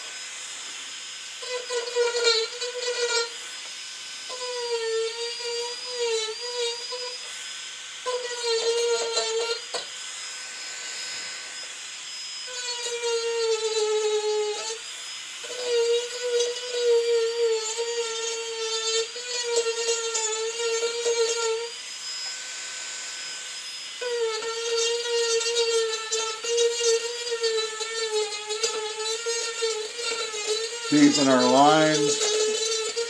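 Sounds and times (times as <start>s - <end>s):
rotary tool whining on wood: 0.0s - 33.0s.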